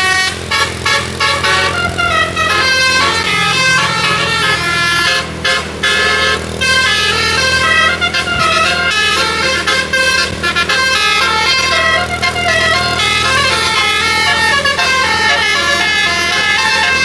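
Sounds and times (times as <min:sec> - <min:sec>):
low engine hum: 0:00.0 - 0:17.0
multi-trumpet air horn melody: 0:00.0 - 0:17.0.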